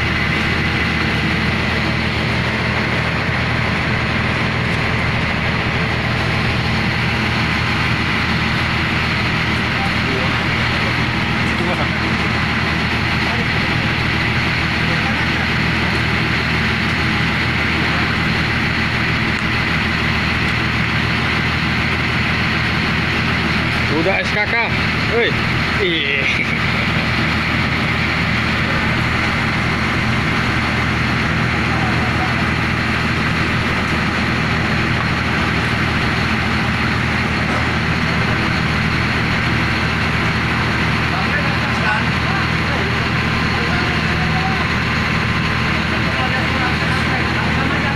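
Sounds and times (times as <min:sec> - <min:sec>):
heavy engine running: 0:00.0 - 0:47.9.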